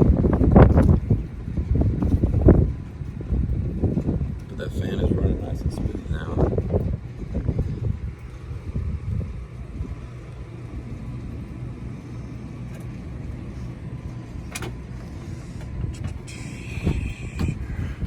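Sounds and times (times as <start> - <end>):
blower fan humming: 0.0 - 18.0.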